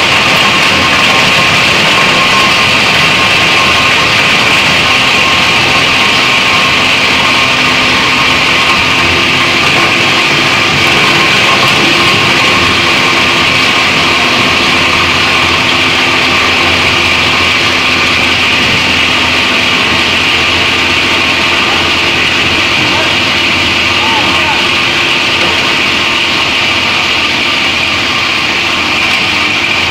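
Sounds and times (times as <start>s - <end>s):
plastic grinder running: 0.0s - 29.9s.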